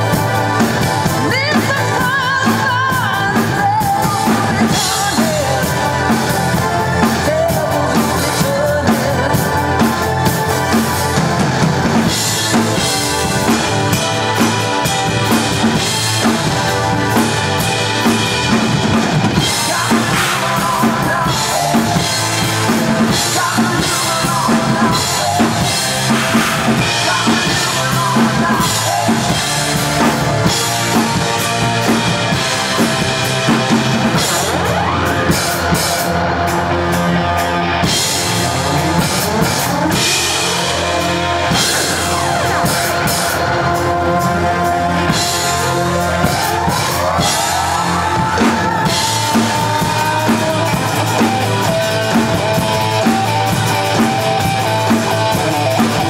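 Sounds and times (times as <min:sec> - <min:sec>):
drum kit playing beat: 0:00.0 - 0:56.0
recorded rock song: 0:00.0 - 0:56.0.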